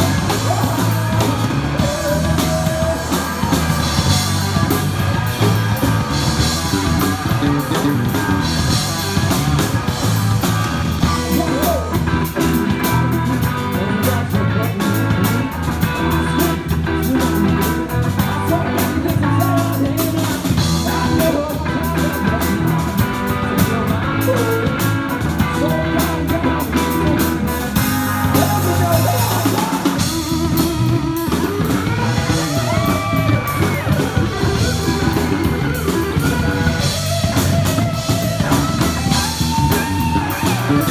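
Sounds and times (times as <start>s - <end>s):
drum kit: 0.0s - 40.9s
electric guitars: 0.0s - 40.9s.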